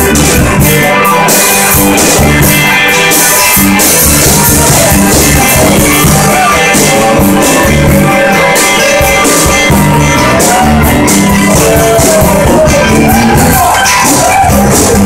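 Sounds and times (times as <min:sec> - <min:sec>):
blues-rock band playing: 0:00.0 - 0:15.0
harmonica bending notes: 0:00.0 - 0:15.0.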